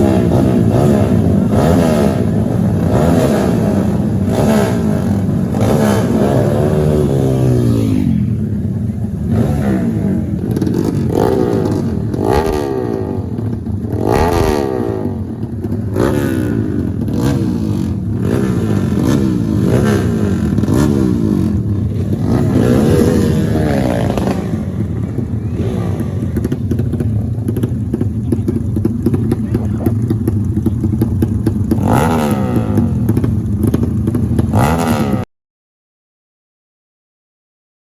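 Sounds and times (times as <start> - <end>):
motorcycle engines revving: 0.0 - 35.3.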